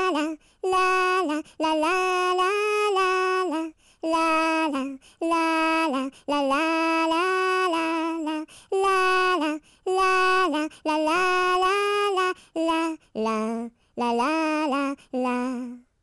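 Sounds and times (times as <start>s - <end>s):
high voice singing la la la: 0.0s - 15.9s.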